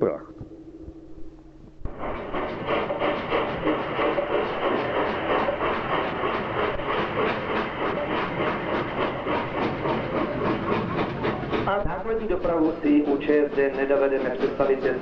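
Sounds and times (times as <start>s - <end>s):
train wheels on rails: 1.8s - 15.0s
steam locomotive chuffing: 1.9s - 15.0s.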